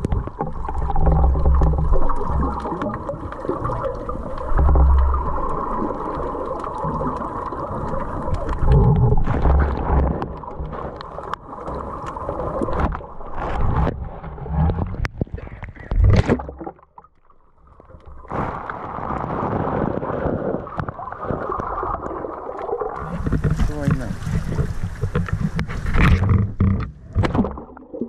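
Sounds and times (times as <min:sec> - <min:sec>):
low thumps underwater: 0:00.0 - 0:05.8, 0:08.3 - 0:11.4, 0:12.5 - 0:28.0
muffled underwater water noise: 0:00.0 - 0:28.0
water sloshing: 0:00.0 - 0:28.0.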